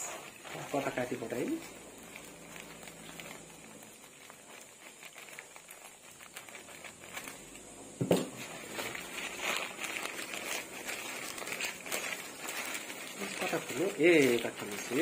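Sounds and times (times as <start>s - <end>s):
scissors cutting plastic bag: 0.0s - 7.7s, 8.3s - 15.0s
plastic bag rustling: 0.0s - 15.0s.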